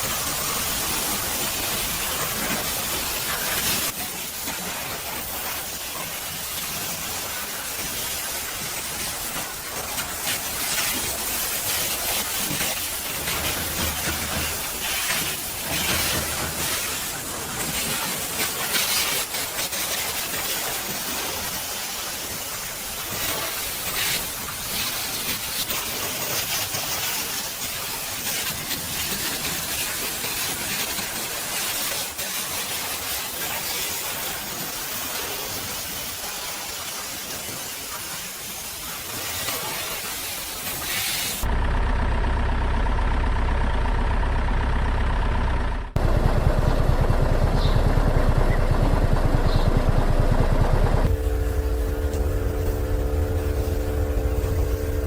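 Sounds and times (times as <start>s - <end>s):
pressure washer spray hissing: 0.0s - 41.5s, 46.8s - 55.0s.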